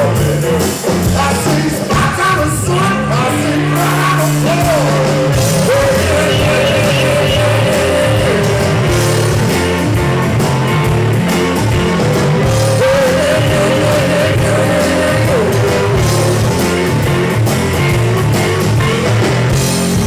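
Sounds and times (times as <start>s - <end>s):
blues-rock band playing loud: 0.0s - 20.0s
electric guitar bending notes: 0.0s - 20.0s.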